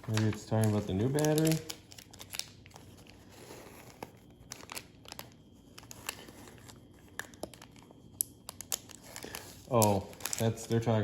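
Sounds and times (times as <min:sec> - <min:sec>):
plastic and paper parts handled: 0:00.0 - 0:11.0.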